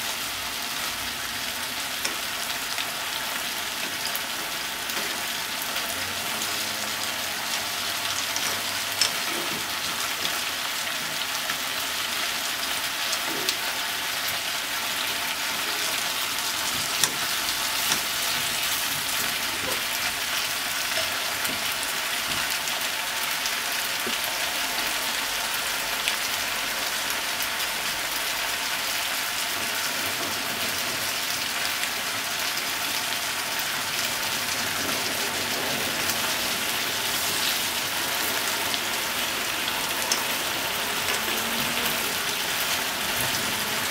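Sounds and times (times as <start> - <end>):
food sizzling in a pot: 0.0 - 43.9.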